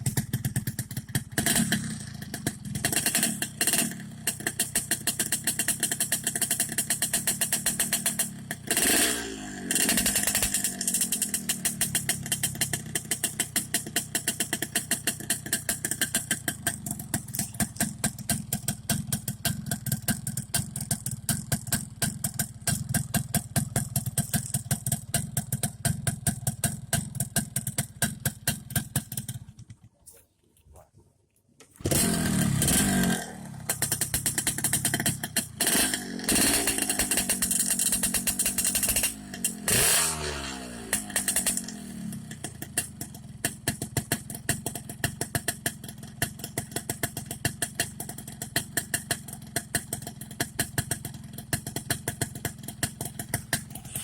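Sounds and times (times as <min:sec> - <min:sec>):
motorcycle engine idling and revving: 0:00.0 - 0:30.1, 0:31.7 - 0:54.0.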